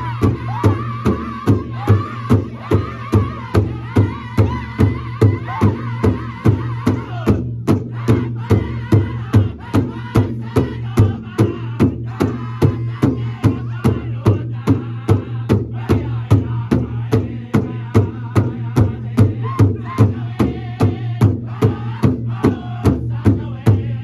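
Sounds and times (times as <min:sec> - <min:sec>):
large drum beating: 0:00.0 - 0:24.0
men singing in high voices: 0:00.0 - 0:24.0.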